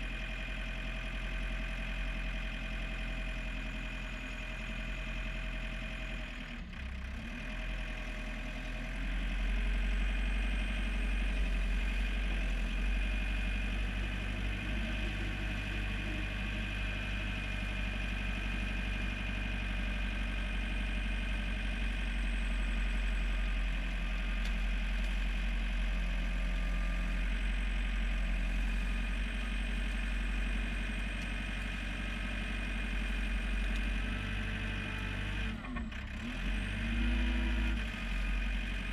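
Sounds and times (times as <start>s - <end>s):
tractor diesel engine hum: 0.0s - 38.9s.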